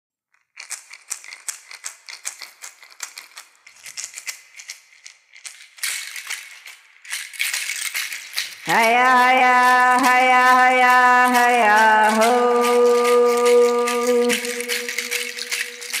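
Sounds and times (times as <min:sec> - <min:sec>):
hand rattle shaken: 0:00.4 - 0:16.0.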